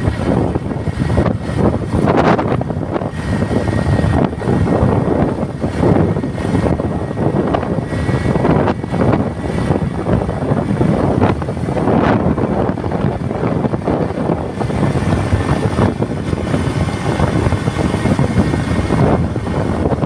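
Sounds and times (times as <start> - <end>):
engine and tyre road noise: 0.0 - 20.0
wind buffeting microphone: 0.0 - 20.0.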